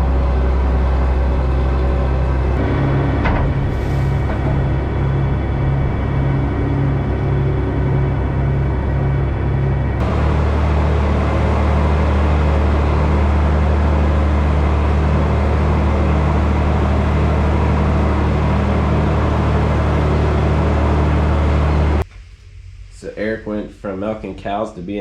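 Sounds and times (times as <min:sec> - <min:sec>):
tractor and feed wagon droning: 0:00.0 - 0:22.0.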